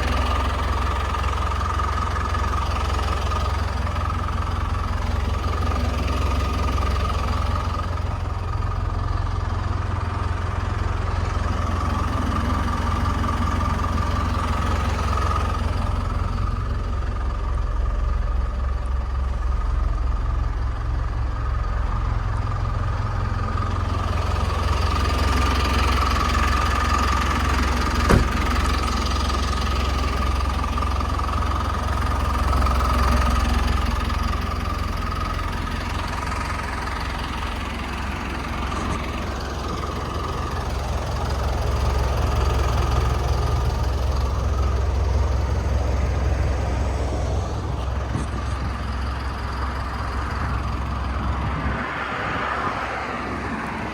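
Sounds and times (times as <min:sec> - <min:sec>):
diesel engine idling: 0:00.0 - 0:53.9.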